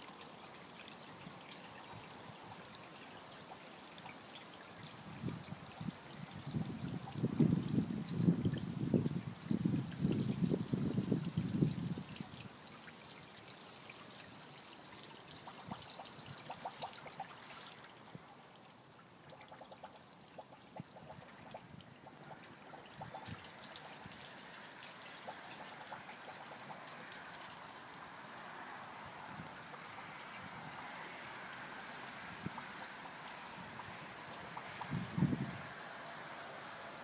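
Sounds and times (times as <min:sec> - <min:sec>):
water trickling into pond: 0:00.0 - 0:37.0.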